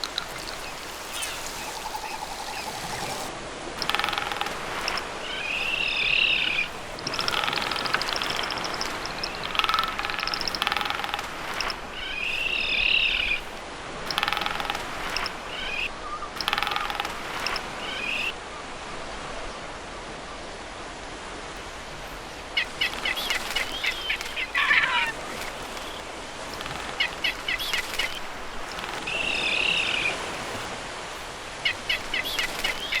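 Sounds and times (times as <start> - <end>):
bird falling call: 0.0 - 18.3, 22.4 - 30.7, 31.6 - 33.0
bird rapid clicking: 0.0 - 18.3, 21.6 - 33.0
bird warbling call: 0.0 - 18.4, 21.9 - 33.0
faint steady hiss: 0.0 - 33.0.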